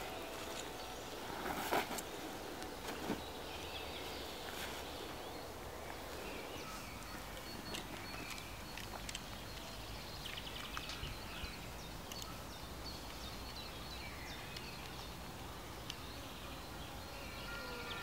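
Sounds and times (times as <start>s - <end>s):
steady low background noise: 0.0s - 18.0s
faint bird chirps: 2.9s - 18.0s.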